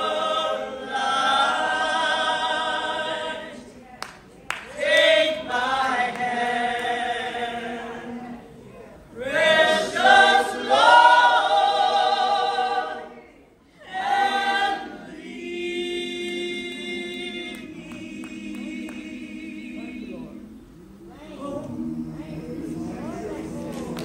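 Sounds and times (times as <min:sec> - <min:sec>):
vocal group singing a cappella: 0:00.0 - 0:03.8, 0:04.6 - 0:24.0.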